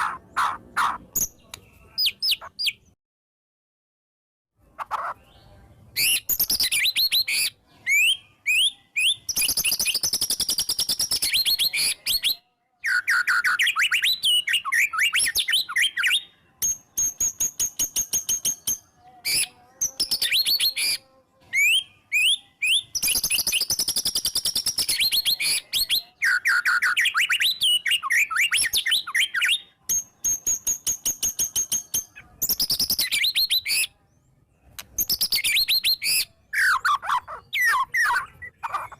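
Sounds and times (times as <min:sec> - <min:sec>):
bird singing trills and whistles: 0:04.9 - 0:34.0, 0:34.7 - 0:38.9.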